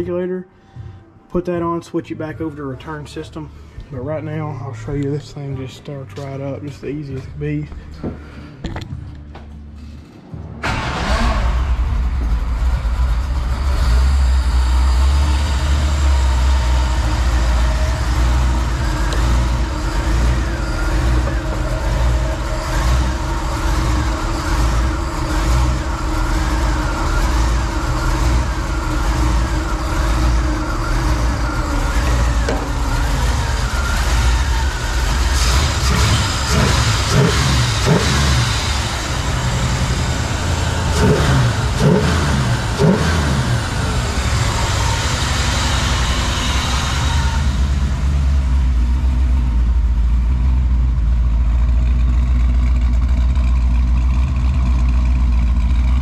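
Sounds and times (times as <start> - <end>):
car engine idling: 0.7 - 56.0
engine throttle blips: 4.7 - 56.0.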